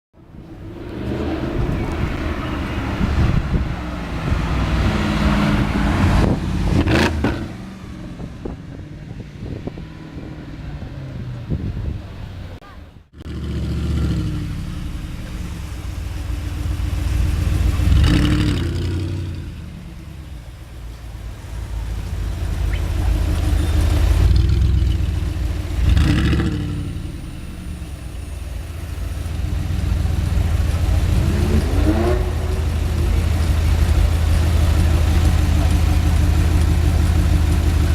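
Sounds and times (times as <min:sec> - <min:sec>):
car engine revving: 0:00.2 - 0:37.9.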